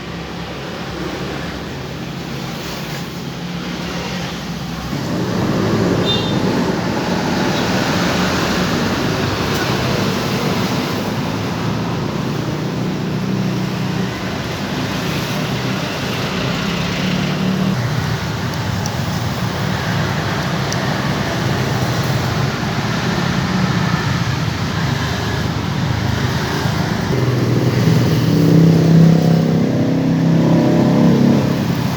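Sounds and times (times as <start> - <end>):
broad rushing noise: 0.0 - 31.9.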